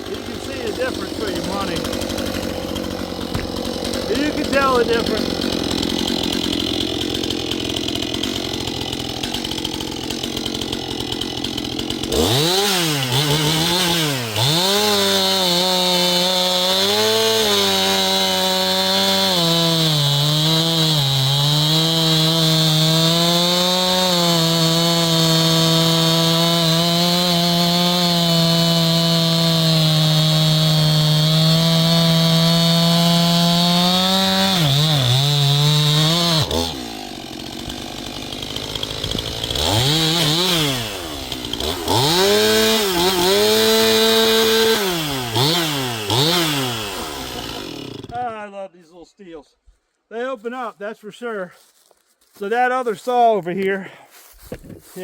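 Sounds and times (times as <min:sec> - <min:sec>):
chainsaw cutting through log: 0:00.0 - 0:48.4.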